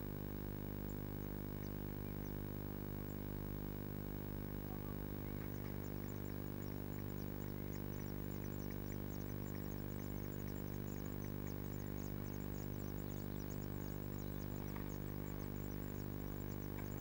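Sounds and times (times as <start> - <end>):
steady low hum: 0.0 - 17.0
nestlings begging cheeps: 1.2 - 2.4, 4.4 - 17.0.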